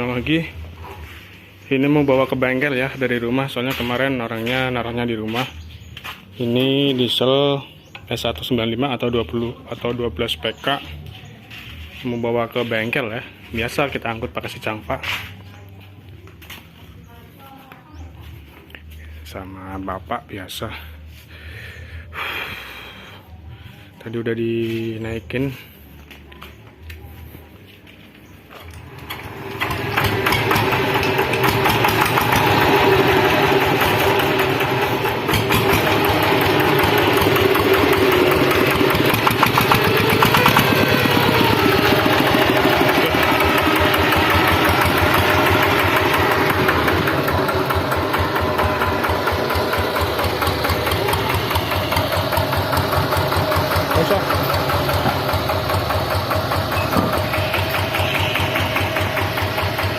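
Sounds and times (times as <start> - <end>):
diesel engine starting and running: 0.0 - 59.9.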